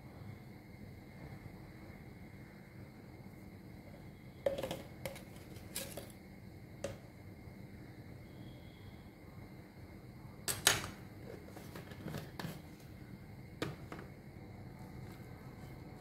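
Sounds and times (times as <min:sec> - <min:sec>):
faint room noise: 0:00.0 - 0:16.0.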